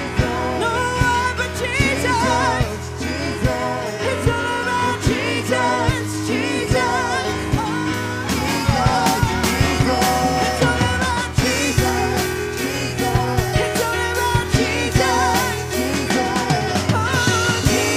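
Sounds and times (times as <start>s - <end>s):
drums keeping a steady beat: 0.0s - 17.9s
low bass notes: 0.0s - 17.9s
women singing into microphones: 0.0s - 17.9s.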